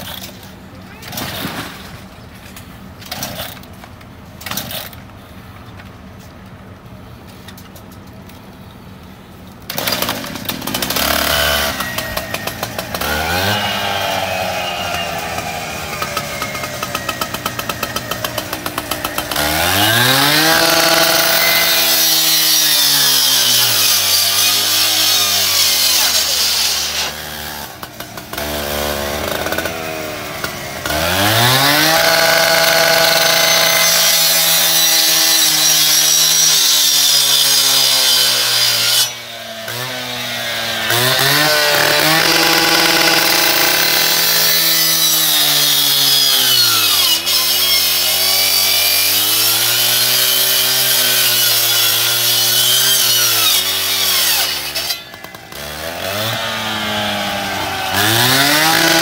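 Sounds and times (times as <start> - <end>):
rescue saw idling and revving: 9.7 - 59.0.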